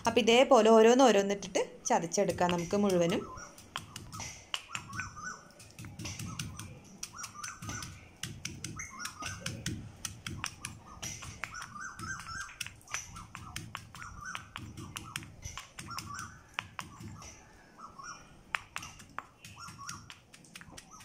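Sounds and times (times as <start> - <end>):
birds chirping: 0.0 - 21.0
pestle pounding in stone mortar: 2.2 - 17.2, 18.5 - 21.0.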